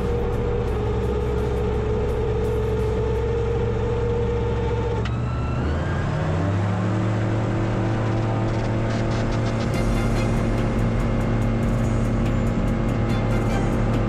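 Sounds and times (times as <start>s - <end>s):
aircraft engine running: 0.0s - 14.0s.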